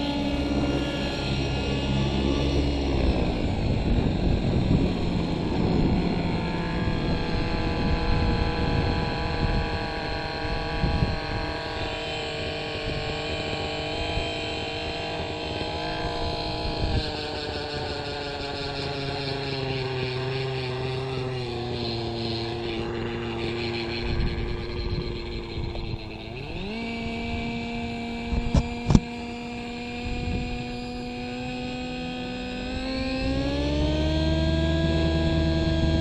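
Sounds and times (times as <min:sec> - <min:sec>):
helicopter rotor rush: 0:00.0 - 0:36.0
model engine idling: 0:00.0 - 0:36.0.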